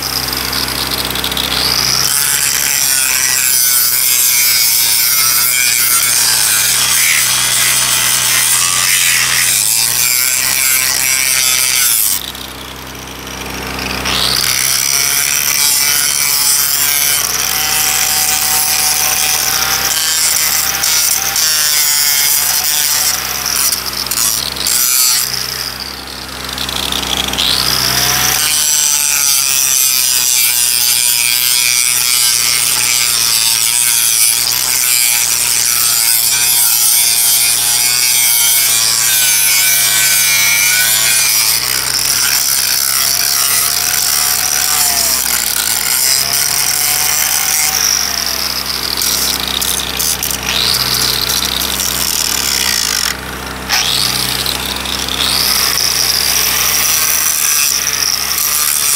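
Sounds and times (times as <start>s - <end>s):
angle grinder grinding steel: 0.0s - 58.9s.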